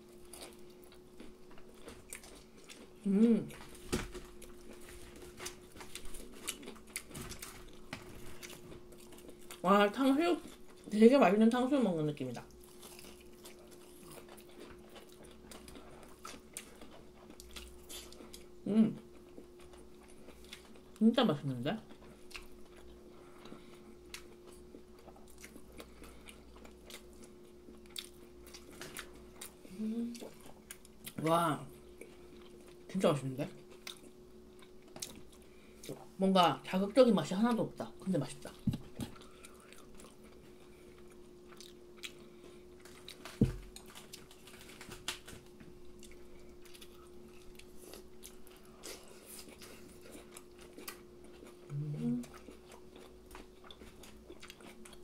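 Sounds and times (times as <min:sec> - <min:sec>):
person chewing: 0:00.0 - 0:09.6, 0:12.4 - 0:21.0, 0:21.8 - 0:31.2, 0:33.6 - 0:36.1, 0:38.5 - 0:45.0, 0:45.8 - 0:55.0
faint steady hum: 0:00.0 - 0:55.0.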